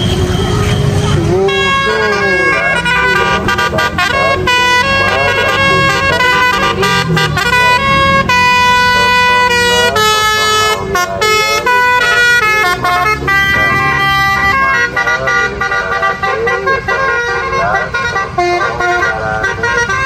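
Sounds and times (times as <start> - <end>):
musical air horn playing a tune: 0.0 - 20.0.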